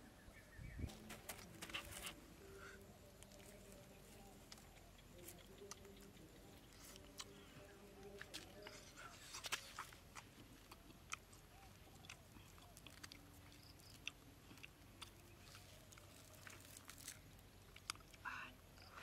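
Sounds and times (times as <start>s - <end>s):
quiet chewing: 0.9s - 19.0s.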